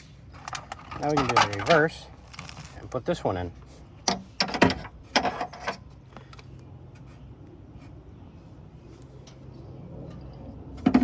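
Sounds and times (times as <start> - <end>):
car parts scraping and clicking: 0.0 - 11.0.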